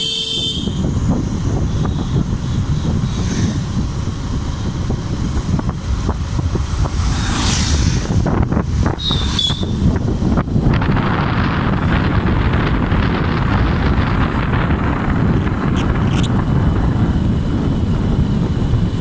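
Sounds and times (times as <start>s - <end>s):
motorcycle running: 0.0s - 19.0s
wind buffeting microphone: 0.5s - 19.0s.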